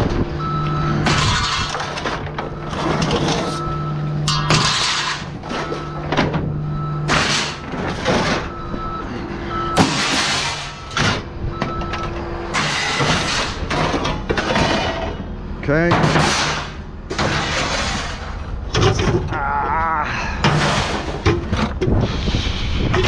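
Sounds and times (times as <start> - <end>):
heavy machine engine running: 0.0 - 23.0
scrap metal crashing: 1.0 - 11.4, 12.5 - 19.6, 20.2 - 23.0.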